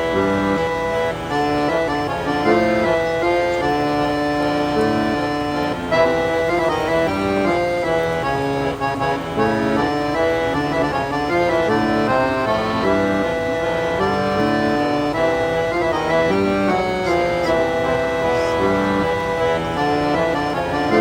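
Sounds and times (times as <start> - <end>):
reedy instrumental music: 0.0 - 21.0.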